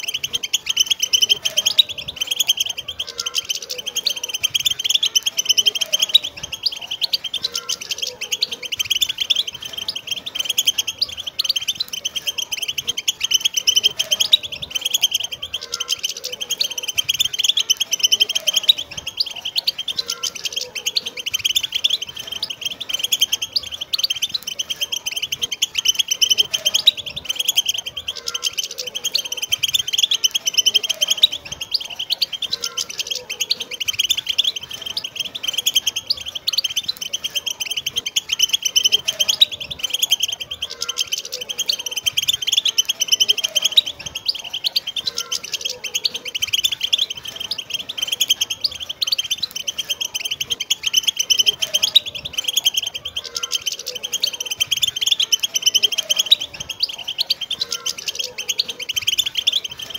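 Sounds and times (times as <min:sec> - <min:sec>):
goldfinches twittering: 0:00.0 - 0:59.9.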